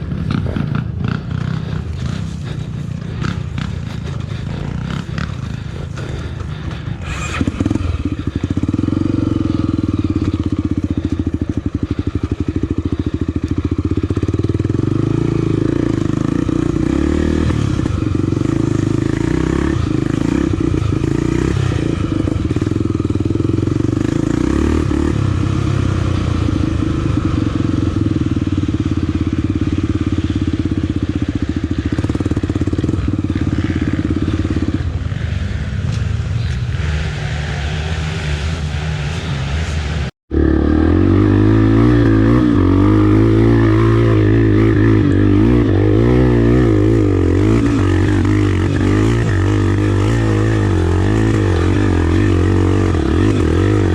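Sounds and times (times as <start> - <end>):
motorcycle engine under load: 0.0 - 53.9.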